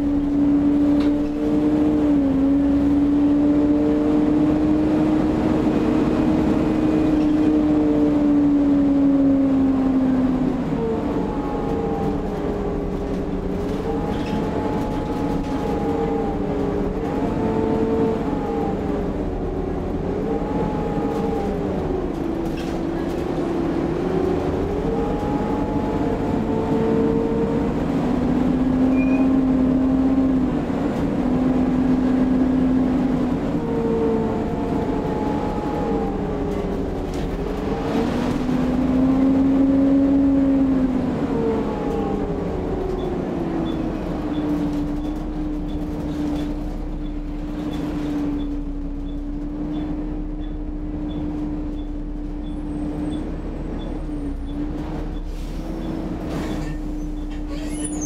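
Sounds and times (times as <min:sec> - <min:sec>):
bus engine and gearbox whine: 0:00.0 - 0:58.0.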